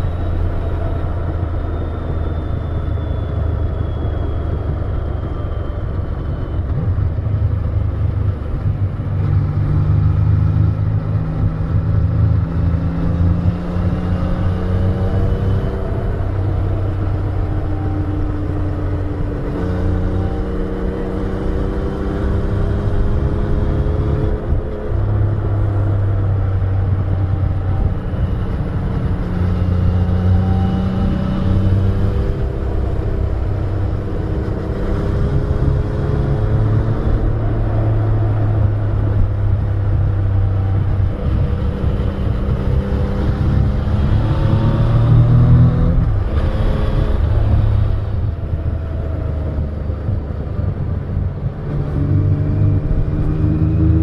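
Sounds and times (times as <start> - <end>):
motorcycle engine revving: 6.8 - 54.0.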